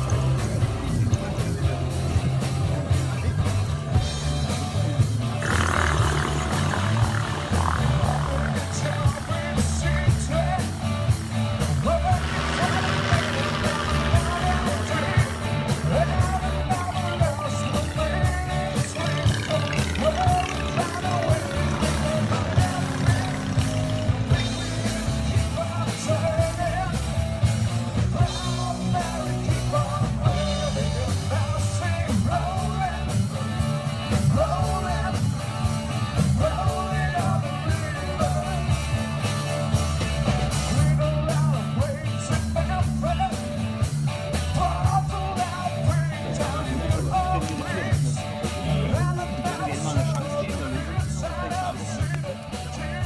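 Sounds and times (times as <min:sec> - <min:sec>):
rock music with singer: 0:00.0 - 0:53.0.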